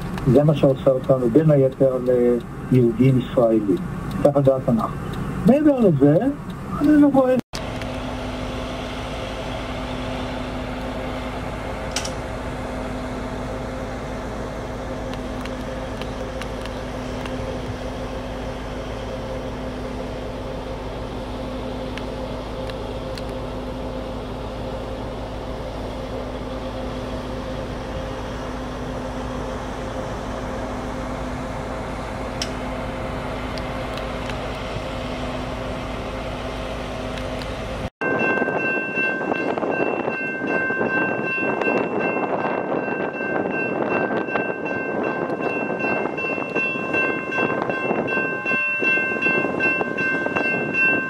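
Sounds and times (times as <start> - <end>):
diesel engines droning: 0.0 - 51.0.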